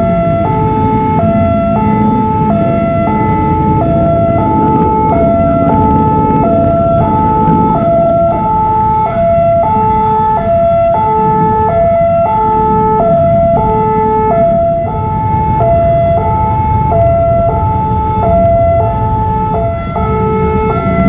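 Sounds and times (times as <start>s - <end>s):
road traffic rumble: 0.0s - 21.0s
two-tone crossing alarm: 0.0s - 21.0s.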